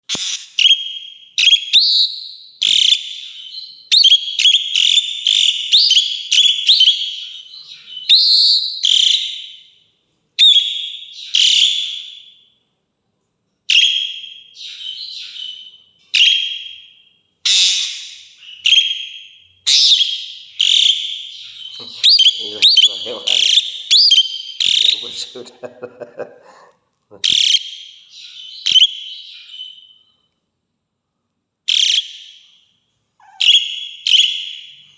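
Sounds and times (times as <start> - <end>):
starling whistled calls: 0.1 - 9.8, 10.4 - 12.5, 13.7 - 25.4, 27.2 - 30.2, 31.7 - 34.9.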